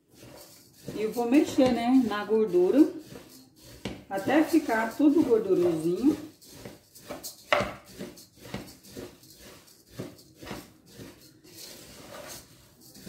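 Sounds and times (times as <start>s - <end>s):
spoon scraping metal pot: 0.0s - 13.0s.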